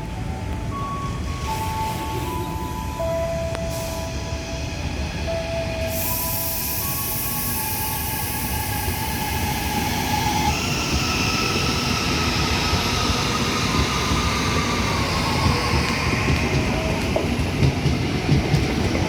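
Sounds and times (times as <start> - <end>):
train wheel and rail rumble: 0.0 - 19.0.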